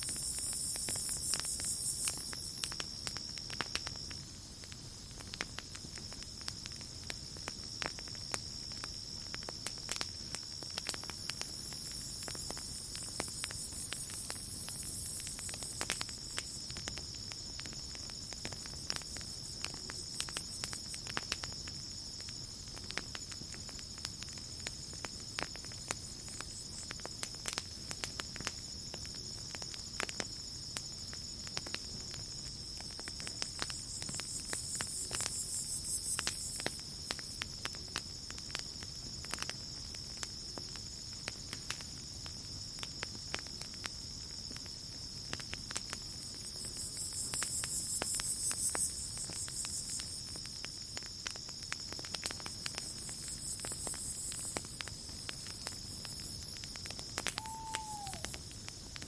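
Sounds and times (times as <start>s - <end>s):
campfire crackling and popping: 0.0s - 59.0s
crickets trilling: 0.0s - 59.0s.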